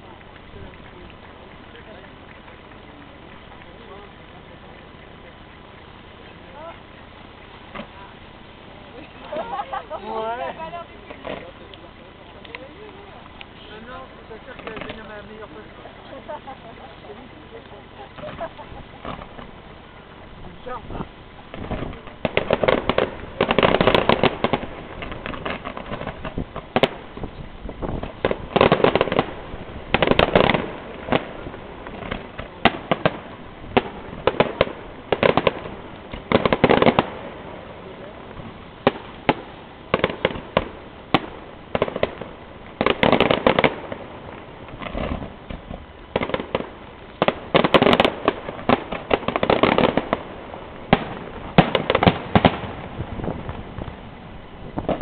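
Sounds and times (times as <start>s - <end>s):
fireworks bangs: 0.0s - 55.0s
fireworks crackling bursts: 0.0s - 55.0s.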